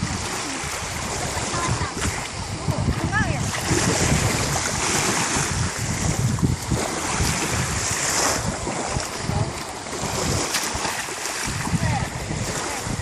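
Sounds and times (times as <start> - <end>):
rushing water and spray: 0.0 - 13.0
wind buffeting microphone: 0.0 - 13.0.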